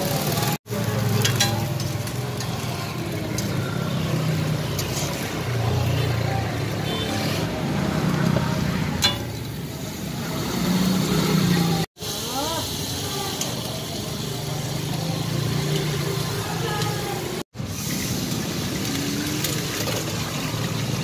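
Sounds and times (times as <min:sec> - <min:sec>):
faint voices: 0:00.0 - 0:17.4
traffic engine drone: 0:00.0 - 0:21.0.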